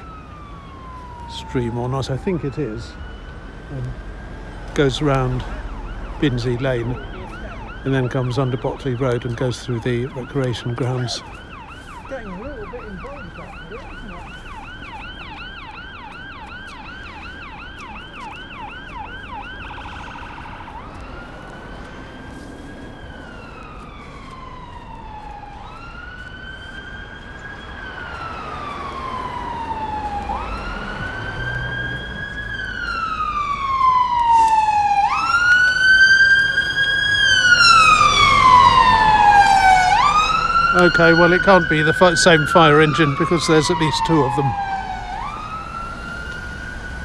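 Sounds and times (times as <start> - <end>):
fire engine siren: 0.0 - 47.0.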